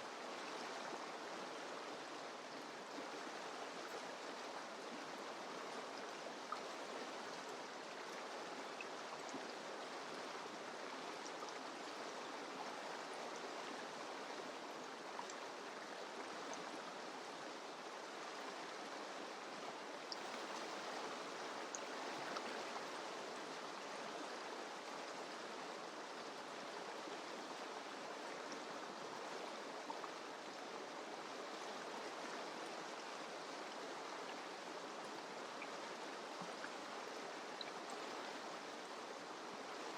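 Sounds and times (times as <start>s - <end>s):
water splashes and trickles: 0.0s - 39.9s.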